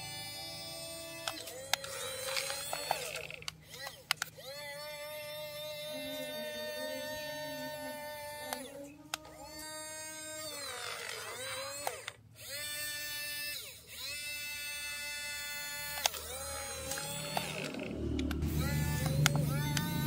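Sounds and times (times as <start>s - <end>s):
toy electric motors whining: 0.0s - 20.0s.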